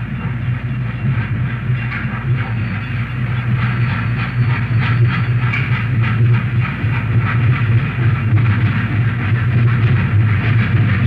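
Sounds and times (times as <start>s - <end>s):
low drone: 0.0s - 11.0s
steam train clatter: 0.0s - 11.0s.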